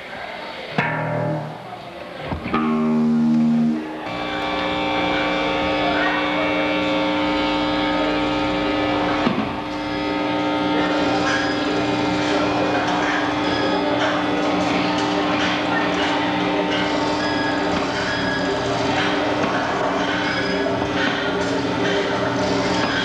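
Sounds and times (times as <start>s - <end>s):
electric guitars ringing chords: 0.8s - 1.7s, 2.3s - 23.0s.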